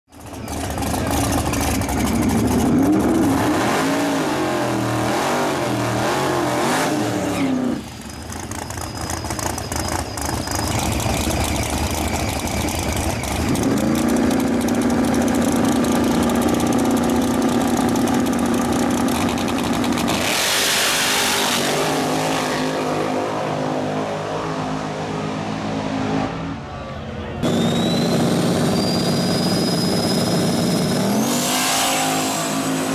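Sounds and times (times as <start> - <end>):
drag car engines revving: 0.1 - 32.9.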